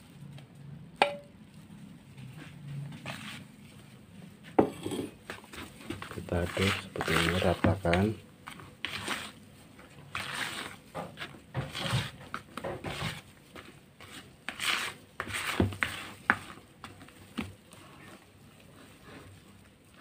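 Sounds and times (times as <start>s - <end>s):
spatula scraping in plastic basin: 2.2s - 20.0s.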